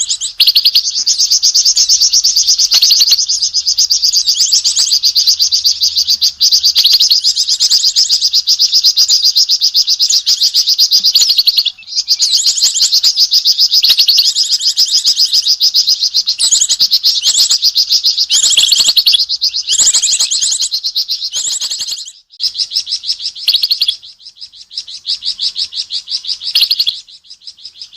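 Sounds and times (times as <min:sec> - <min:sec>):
songbird rapid high chattering: 0:00.0 - 0:27.9.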